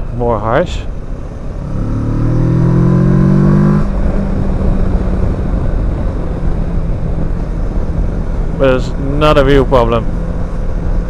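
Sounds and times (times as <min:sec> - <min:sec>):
wind and road noise: 0:00.0 - 0:11.0
motorcycle engine: 0:00.9 - 0:11.0.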